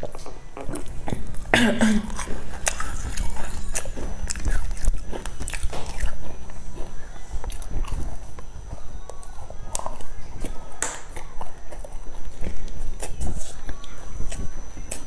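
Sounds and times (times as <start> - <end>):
chewing: 0.0 - 15.0
biting into flaky pastry: 0.1 - 15.0.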